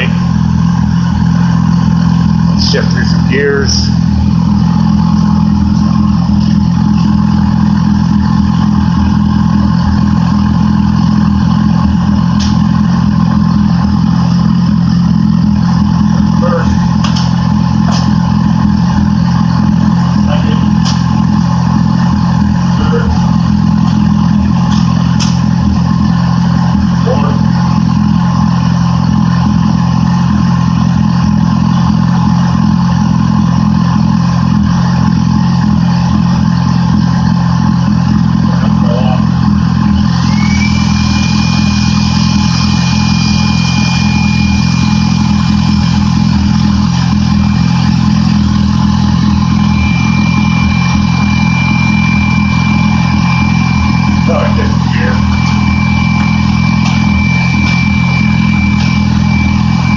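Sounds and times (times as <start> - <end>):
high whine: 0.0 - 59.9
motorcycle engine idling: 0.0 - 59.9.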